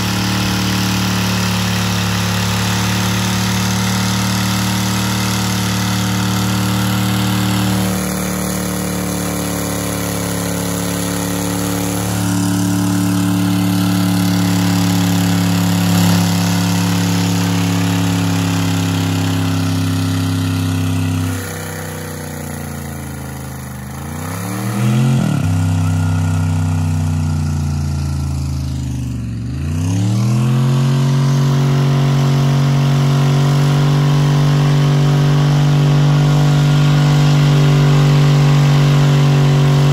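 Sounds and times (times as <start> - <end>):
engine revving high: 0.0 - 39.9.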